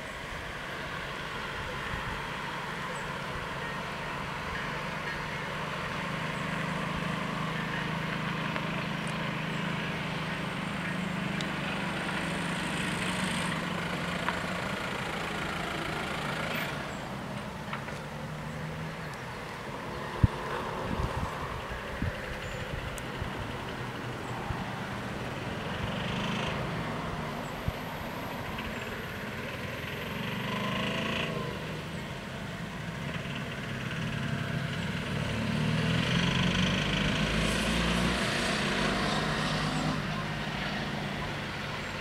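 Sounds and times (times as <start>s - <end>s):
engine humming: 0.0s - 42.0s.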